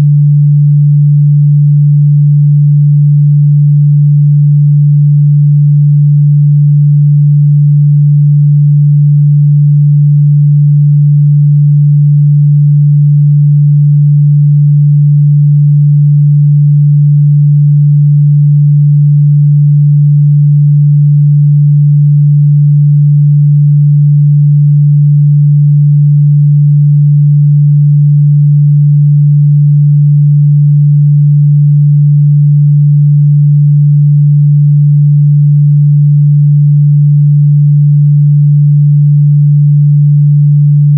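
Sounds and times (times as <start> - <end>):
low sine-wave test tone: 0.0 - 40.9.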